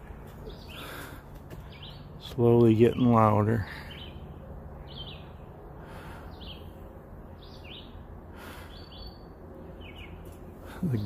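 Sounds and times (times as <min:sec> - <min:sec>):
birds chirping: 0:00.0 - 0:11.0
distant highway traffic rumble: 0:00.0 - 0:11.0.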